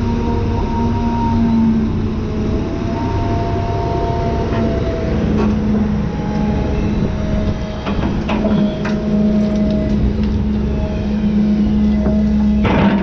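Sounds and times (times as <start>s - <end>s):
excavator engine hum: 0.0s - 13.0s
hydraulic whine: 0.0s - 13.0s.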